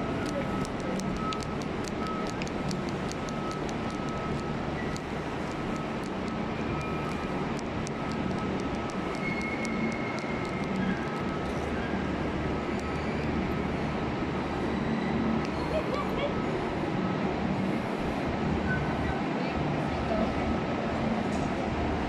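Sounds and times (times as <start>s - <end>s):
rumbling hum of station hall: 0.0s - 22.0s.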